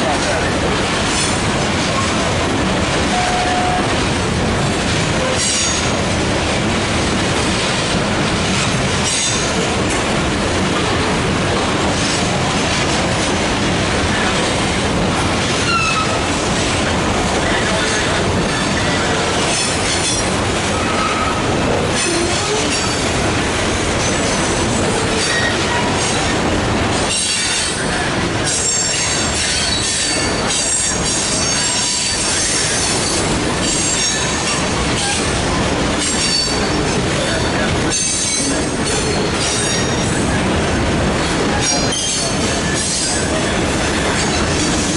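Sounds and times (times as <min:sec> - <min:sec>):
freight train cars rolling: 0:00.0 - 0:44.9.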